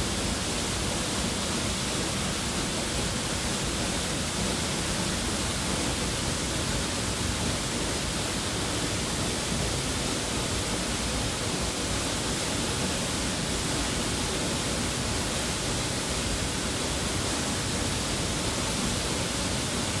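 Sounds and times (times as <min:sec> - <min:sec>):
waterfall rushing: 0:00.1 - 0:20.0.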